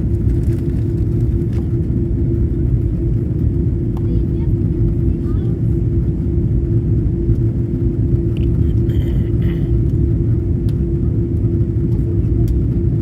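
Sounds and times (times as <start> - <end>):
aircraft cabin engine roar: 0.0 - 13.0
constant hum: 0.0 - 13.0.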